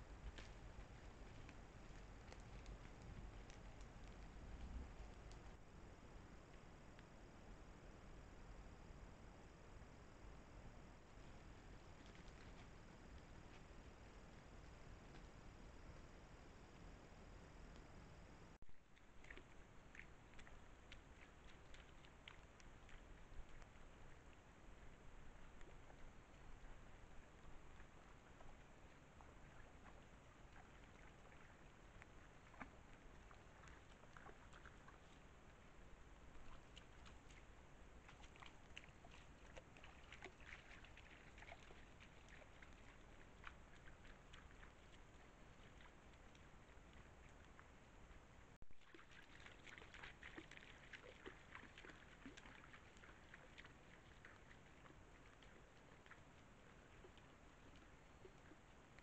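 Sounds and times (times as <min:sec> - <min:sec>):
faint clicks and ticks: 0:00.0 - 0:08.6, 0:10.2 - 0:59.0.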